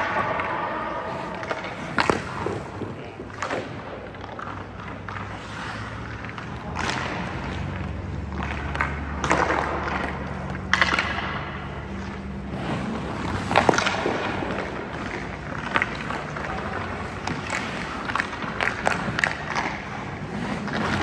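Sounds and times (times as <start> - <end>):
skate blades scraping ice: 0.0 - 21.0
sticks hitting pucks: 0.0 - 21.0.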